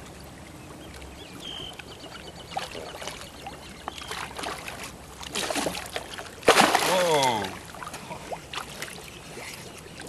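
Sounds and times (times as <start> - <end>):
small water splashes: 0.0 - 10.0
water trickling and lapping: 0.0 - 10.0.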